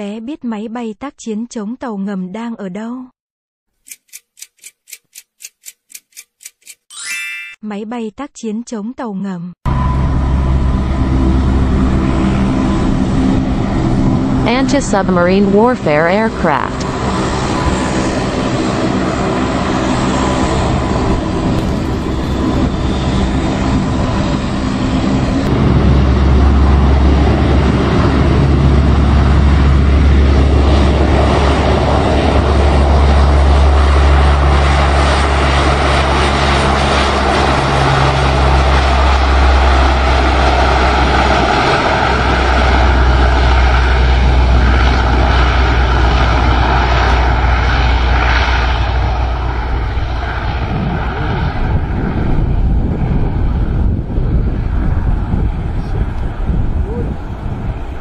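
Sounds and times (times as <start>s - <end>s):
turboprop engines droning: 9.7s - 58.0s.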